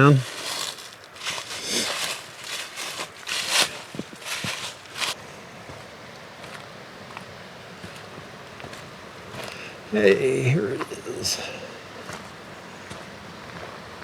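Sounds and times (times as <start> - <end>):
footsteps crunching on trail: 0.0 - 9.6, 11.9 - 14.0.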